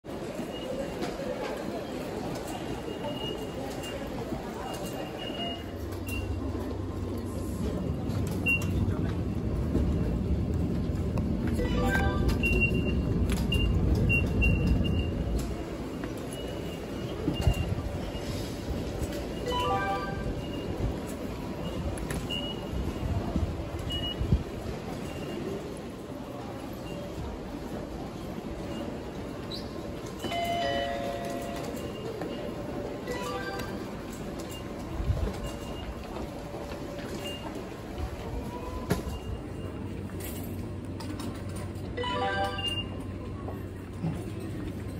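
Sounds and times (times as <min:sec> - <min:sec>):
train rumble: 0:00.1 - 0:44.9.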